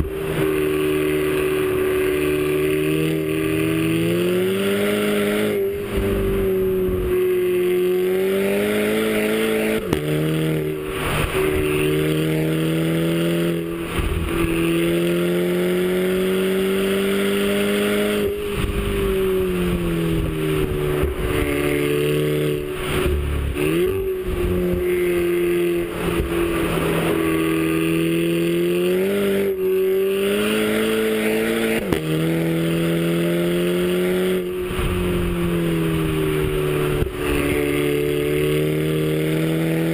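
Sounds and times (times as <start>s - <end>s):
turbocharged car engine running: 0.0s - 39.9s.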